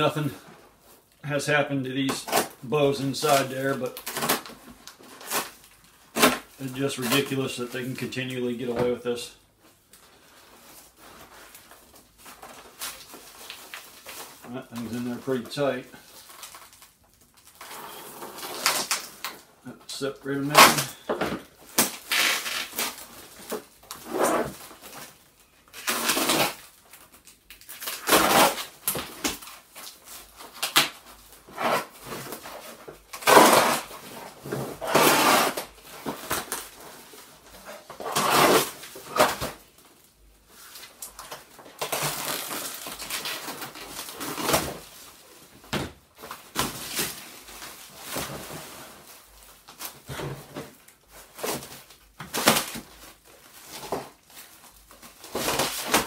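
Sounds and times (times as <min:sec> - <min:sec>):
shrink wrap crinkling: 0:00.0 - 0:34.9, 0:35.5 - 0:56.0.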